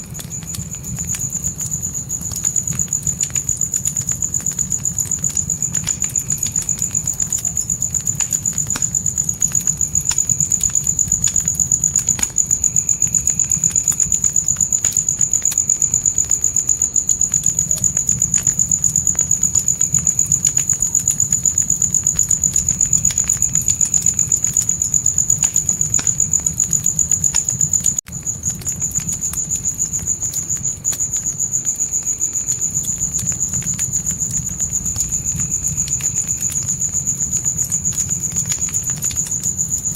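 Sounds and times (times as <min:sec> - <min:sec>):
crickets trilling: 0:00.0 - 0:39.9
fire crackling and popping: 0:00.0 - 0:39.9.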